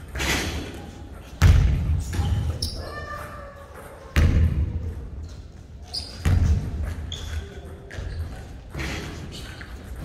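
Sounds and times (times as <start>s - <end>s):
sneaker squeaks: 0.0s - 10.0s.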